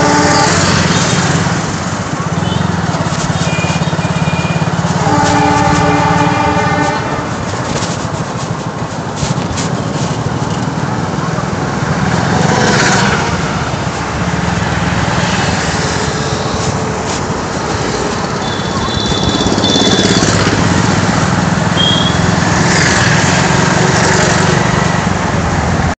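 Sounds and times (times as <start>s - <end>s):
motorcycle engine hum: 0.0s - 25.9s
traffic noise: 0.0s - 26.0s.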